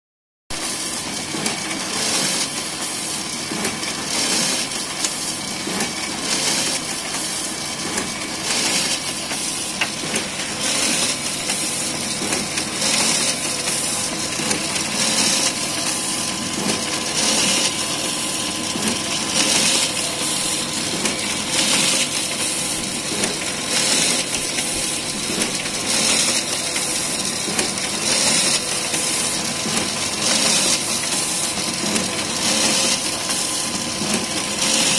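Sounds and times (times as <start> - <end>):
printer mechanical whir: 0.6 - 34.9.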